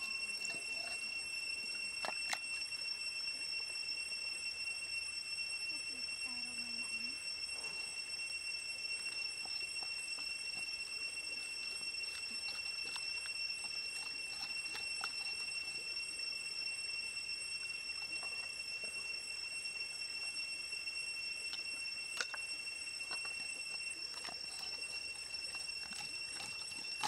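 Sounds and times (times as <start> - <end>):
high-pitched drone: 0.0 - 27.0.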